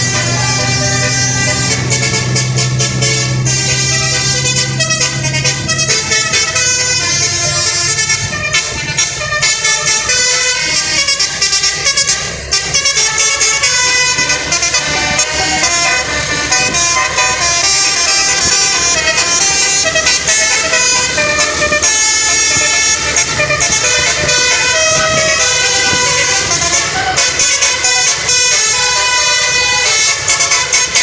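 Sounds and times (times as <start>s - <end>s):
multi-tone bus horn playing a tune: 0.0s - 31.0s.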